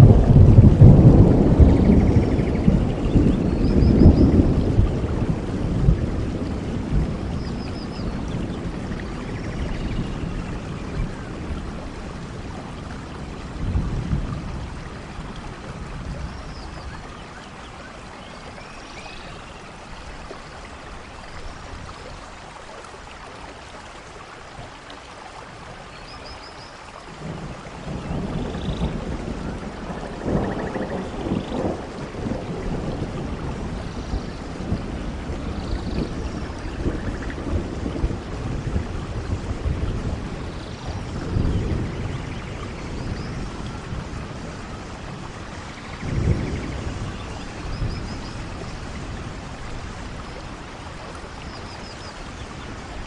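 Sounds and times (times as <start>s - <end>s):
thunder rumbling: 0.0s - 18.6s, 27.1s - 53.0s
steady rain: 0.0s - 53.0s.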